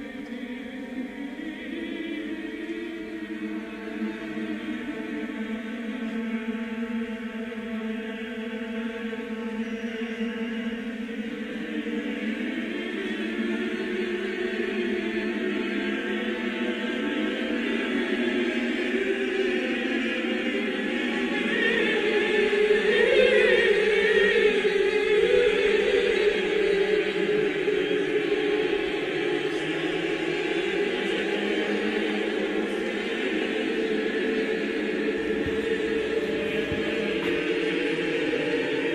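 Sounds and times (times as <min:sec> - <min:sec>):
choir singing held notes: 0:00.0 - 0:38.9.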